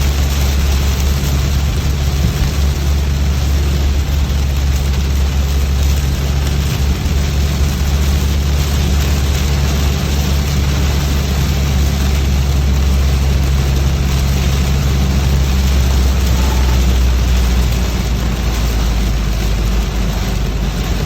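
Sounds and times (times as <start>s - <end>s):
low engine drone: 0.0s - 21.0s
rain hiss: 0.0s - 21.0s
wet road noise: 0.0s - 21.0s.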